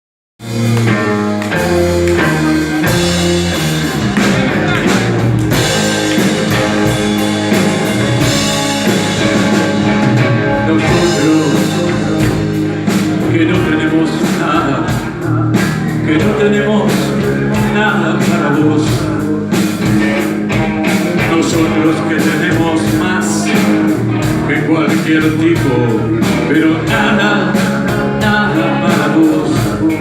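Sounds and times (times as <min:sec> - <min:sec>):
rock band playing live: 0:00.4 - 0:30.0
drum hits: 0:00.5 - 0:24.6.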